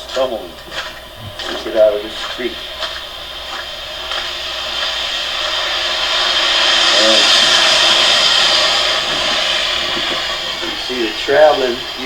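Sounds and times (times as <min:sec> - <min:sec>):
car tyres hissing on wet road: 0:00.0 - 0:12.0.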